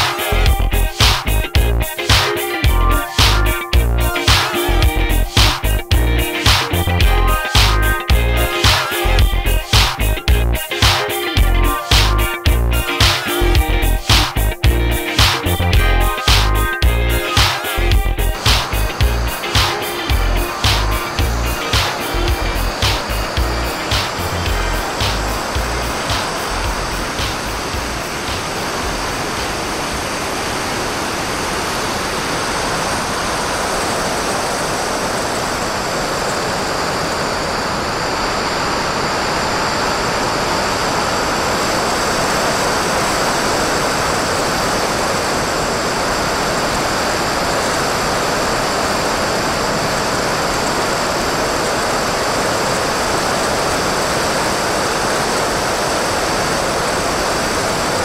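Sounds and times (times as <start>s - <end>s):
faint high whine: 0.0s - 58.0s.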